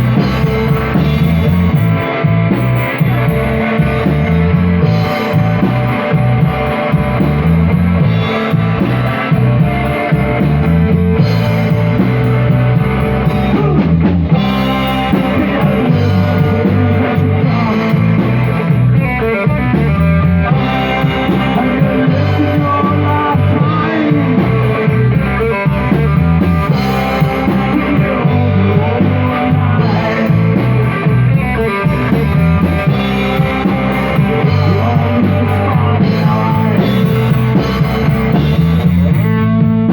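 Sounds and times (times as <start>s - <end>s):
drum kit: 0.0s - 39.9s
electric guitar: 0.0s - 39.9s
rock band playing live: 0.0s - 39.9s.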